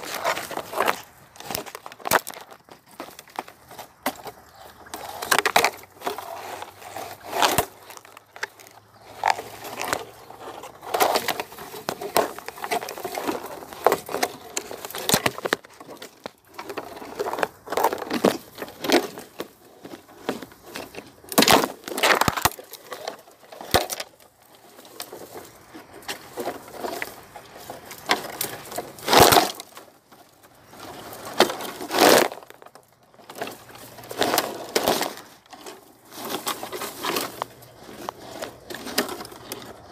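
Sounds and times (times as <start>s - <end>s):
dry leaves and twigs crackling: 0.0s - 39.9s.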